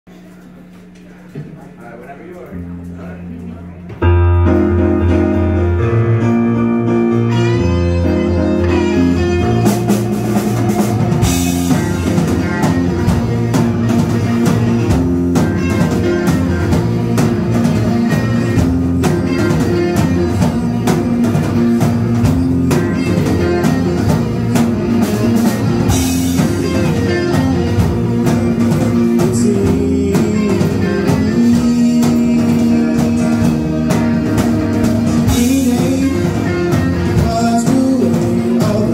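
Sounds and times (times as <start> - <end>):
live rock band playing: 2.4 - 38.9.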